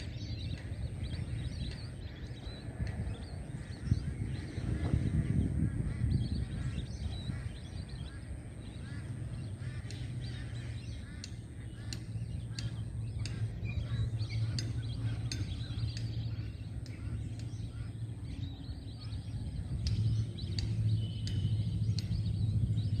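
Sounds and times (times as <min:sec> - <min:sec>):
birds calling and chirping: 0:00.0 - 0:23.0
steady low rumble: 0:00.0 - 0:23.0.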